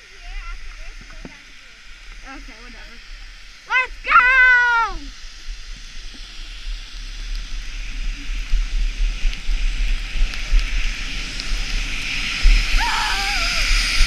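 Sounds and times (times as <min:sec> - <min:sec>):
skis sliding on snow: 0:00.0 - 0:14.0.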